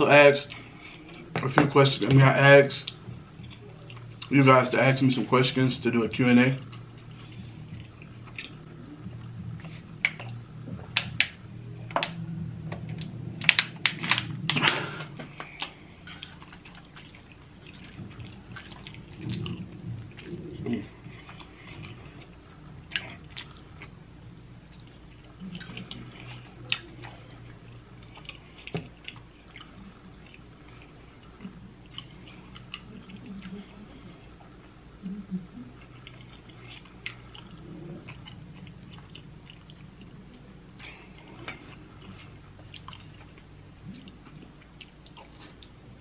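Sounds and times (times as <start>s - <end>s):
person chewing: 2.8s - 4.4s, 6.6s - 11.4s, 12.0s - 34.9s, 35.6s - 46.0s.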